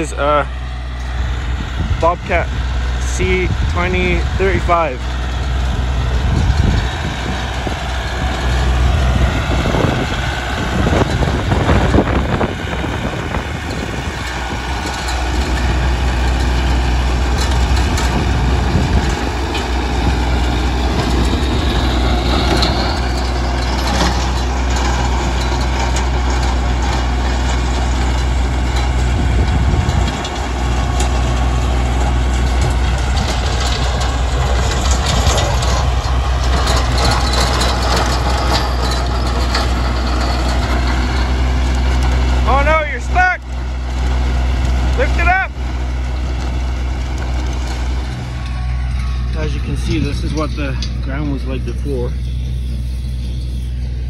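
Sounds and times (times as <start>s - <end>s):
rototiller churning ground: 0.0s - 54.0s
tractor diesel engine running: 0.0s - 54.0s.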